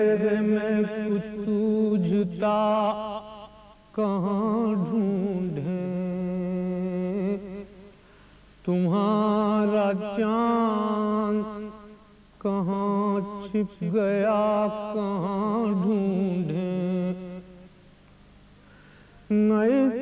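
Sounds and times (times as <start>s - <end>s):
man chanting unaccompanied: 0.0s - 7.9s, 8.6s - 17.7s, 19.3s - 20.0s.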